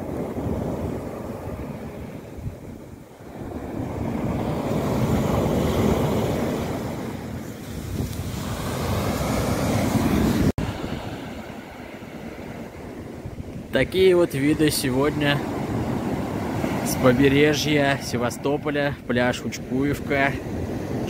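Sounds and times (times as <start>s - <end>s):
small waves breaking on beach: 0.0s - 21.0s
wind rumbling on microphone: 0.0s - 21.0s.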